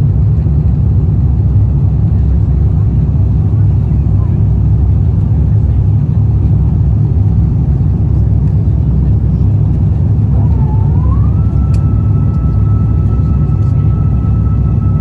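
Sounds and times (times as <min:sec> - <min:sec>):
faint whine: 0:00.0 - 0:15.0
jet engine cabin rumble: 0:00.0 - 0:15.0.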